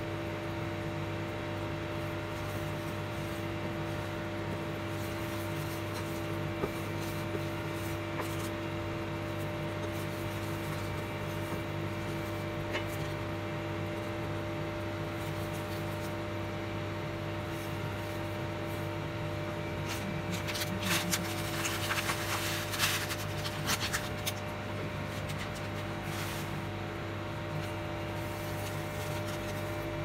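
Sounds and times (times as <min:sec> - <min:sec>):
cooktop electric hum and fan: 0:00.0 - 0:30.0.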